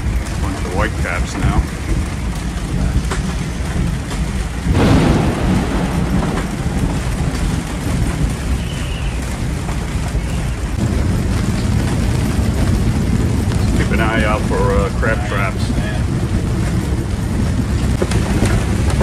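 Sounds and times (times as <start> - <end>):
low rumble: 0.0 - 19.0
rain and wind on canvas enclosure: 0.0 - 19.0.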